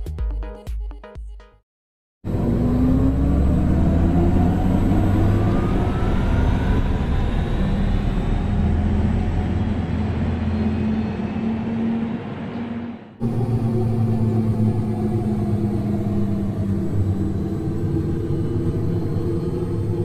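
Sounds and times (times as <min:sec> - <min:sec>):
electric car driving: 0:02.3 - 0:20.0.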